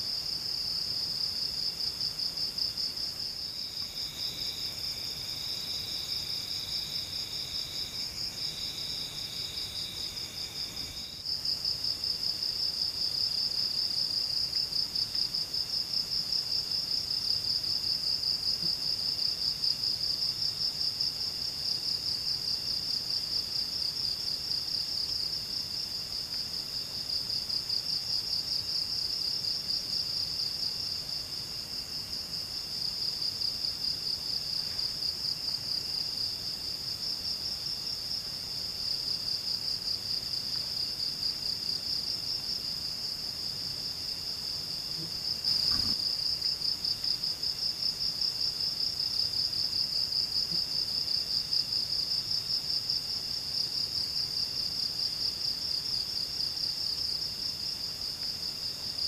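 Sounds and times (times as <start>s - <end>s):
faint second insect call: 0.0s - 15.6s, 22.9s - 59.0s.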